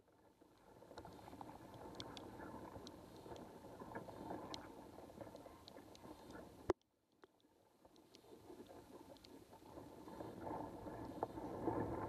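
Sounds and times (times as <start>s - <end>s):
faint clicks: 0.4s - 12.0s.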